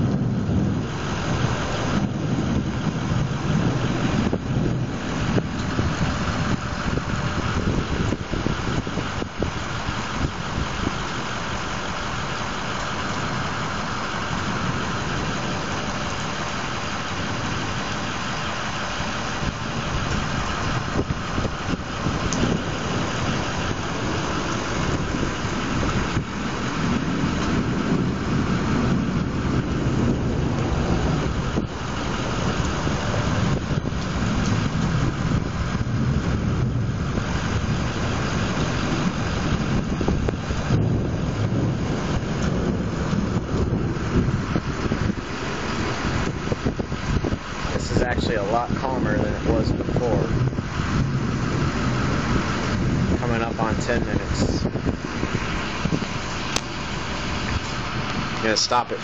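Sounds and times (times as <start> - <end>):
low thunder rumble: 0.0 - 59.0
rain falling: 0.0 - 59.0.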